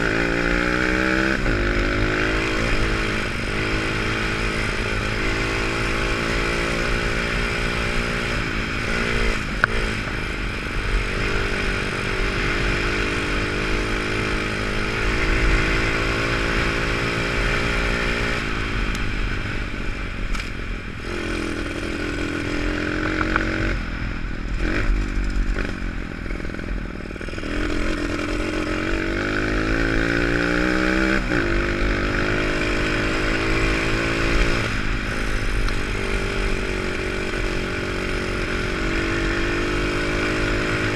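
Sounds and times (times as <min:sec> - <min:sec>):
pit bike engine revving: 0:00.0 - 0:18.5, 0:24.5 - 0:40.9.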